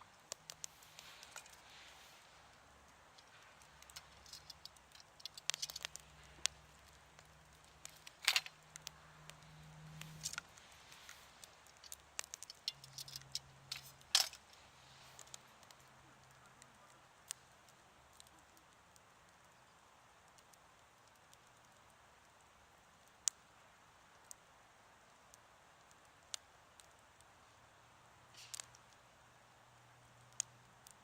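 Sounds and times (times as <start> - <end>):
campfire pops and snaps: 0.1 - 29.4, 30.0 - 31.0.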